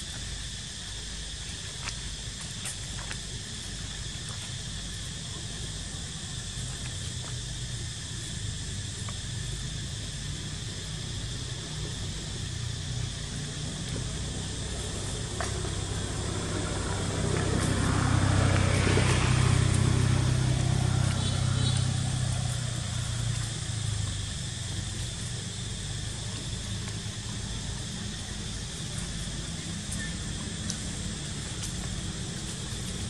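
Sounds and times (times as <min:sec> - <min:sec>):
motor vehicle engine hum: 0:00.0 - 0:33.0.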